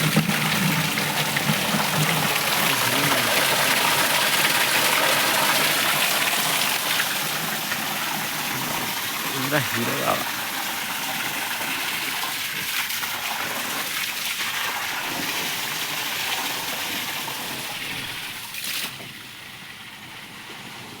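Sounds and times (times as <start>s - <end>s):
water spraying from a hose: 0.0s - 21.0s.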